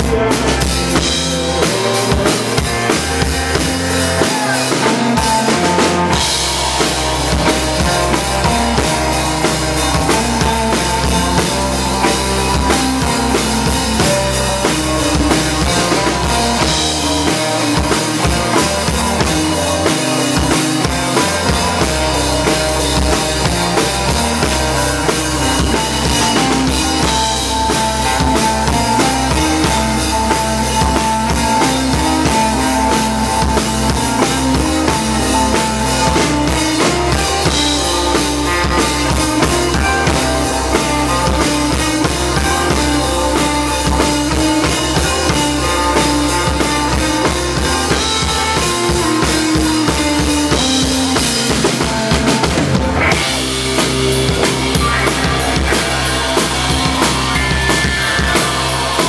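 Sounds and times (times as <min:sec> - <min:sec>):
drum kit beat: 0:00.0 - 0:59.0
electric guitar: 0:00.0 - 0:59.0
live band playing loud: 0:00.0 - 0:59.0.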